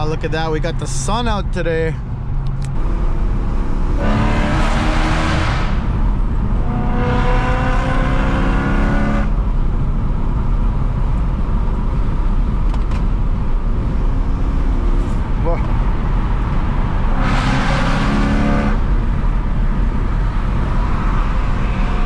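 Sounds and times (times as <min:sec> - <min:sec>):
steady low rumble: 0:00.0 - 0:07.3, 0:09.3 - 0:17.6, 0:18.7 - 0:22.0
car engine accelerating: 0:02.2 - 0:22.0.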